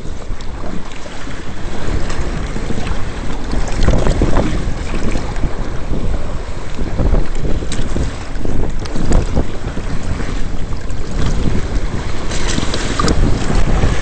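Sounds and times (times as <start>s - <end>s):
water splashing against hulls: 0.0s - 14.0s
wind buffeting microphone: 0.0s - 14.0s.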